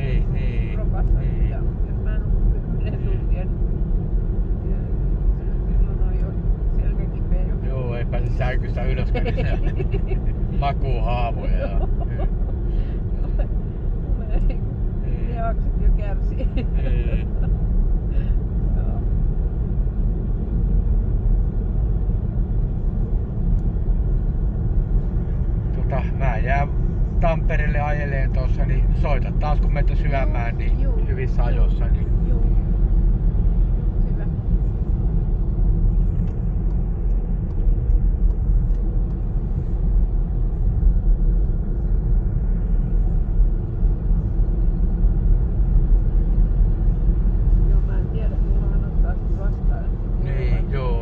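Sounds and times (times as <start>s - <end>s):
car interior road rumble: 0.0s - 51.0s.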